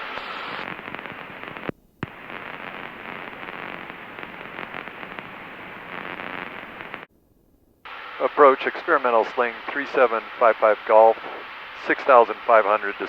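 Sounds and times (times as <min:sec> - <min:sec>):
radio static hiss: 0:00.0 - 0:07.1, 0:07.8 - 0:13.0.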